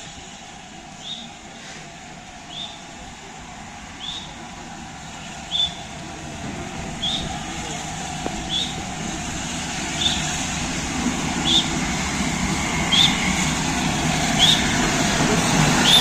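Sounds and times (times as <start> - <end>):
steam locomotive rumbling: 0.0 - 16.0.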